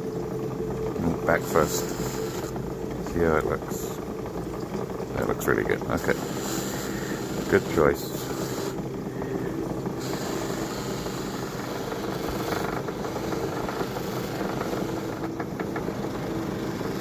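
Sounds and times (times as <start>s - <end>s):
polishing wheel motor running: 0.0s - 17.0s
stone polished on wheel: 1.0s - 4.0s, 5.2s - 17.0s.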